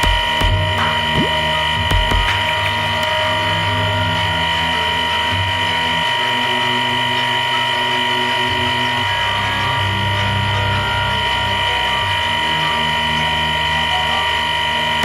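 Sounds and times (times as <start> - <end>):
lathe machine whine: 2.8 - 15.0.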